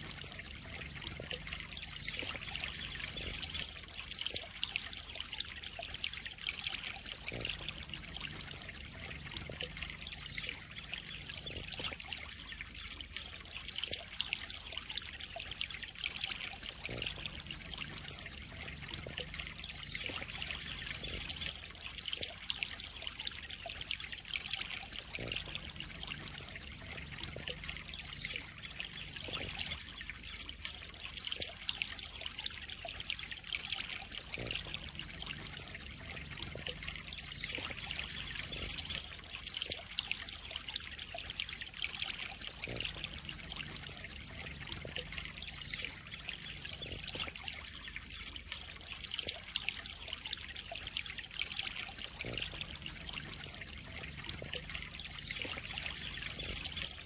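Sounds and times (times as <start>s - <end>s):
water trickling into a pond: 0.0s - 57.0s.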